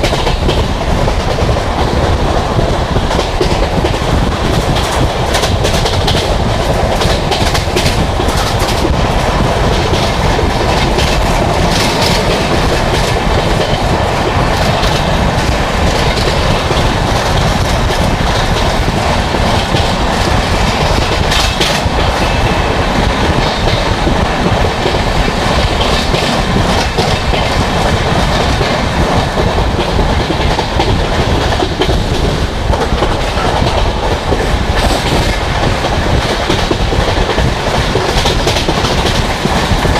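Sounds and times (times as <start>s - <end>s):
clickety-clack of track: 0.0s - 39.9s
train wheels rushing on rail: 0.0s - 39.9s.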